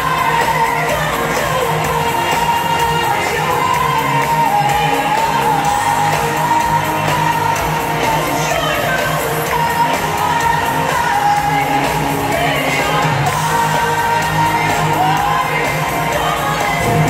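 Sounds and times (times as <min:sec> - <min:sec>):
crowd cheering and singing: 0:00.0 - 0:17.0
live pop music: 0:00.0 - 0:17.0.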